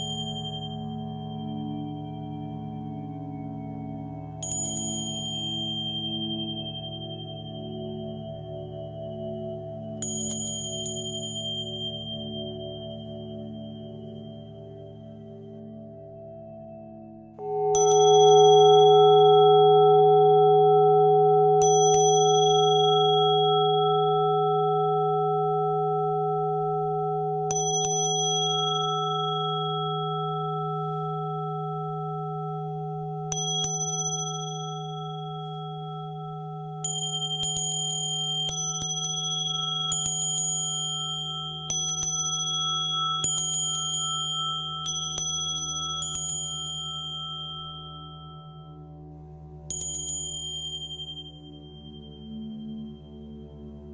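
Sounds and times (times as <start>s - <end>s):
small high bells struck: 0.0s - 3.0s, 4.4s - 8.3s, 10.0s - 13.4s, 17.4s - 48.9s, 49.7s - 52.9s
singing bowls ringing: 0.0s - 53.9s.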